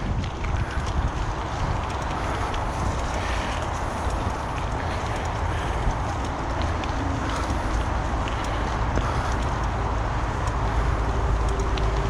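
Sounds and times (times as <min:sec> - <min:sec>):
bicycle tyre and rattling ride noise: 0:00.0 - 0:12.0
wind buffeting microphone: 0:00.0 - 0:12.0.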